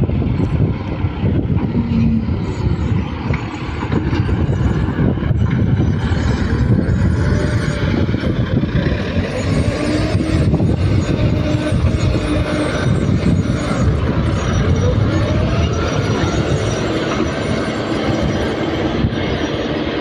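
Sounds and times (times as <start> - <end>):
diesel engine running hard: 0.0 - 20.0.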